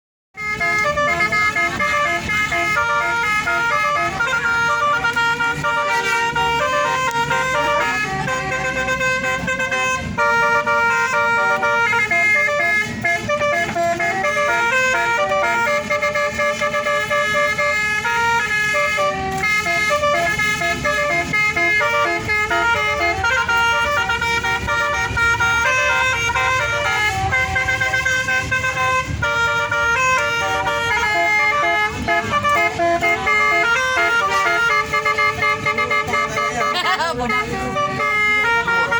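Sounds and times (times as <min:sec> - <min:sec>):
bus air horns playing a tune: 0:00.4 - 0:38.9.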